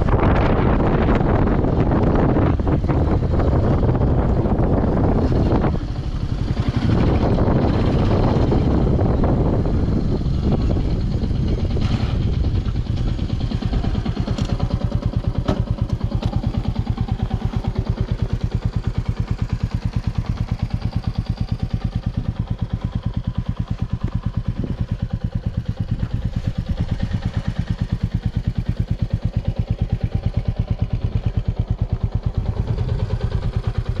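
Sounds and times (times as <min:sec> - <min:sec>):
motorcycle engine idling: 0:00.0 - 0:34.0
wind buffeting microphone: 0:00.0 - 0:34.0.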